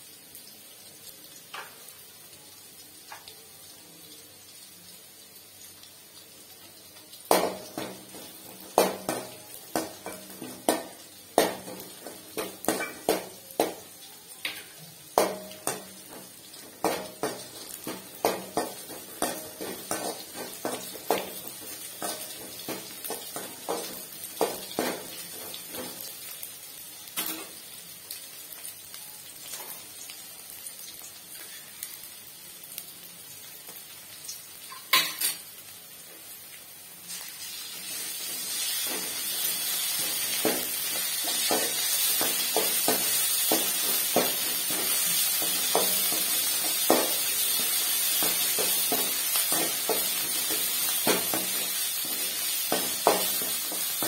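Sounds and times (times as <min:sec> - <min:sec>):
onions sizzling in oil: 0:00.0 - 0:54.0.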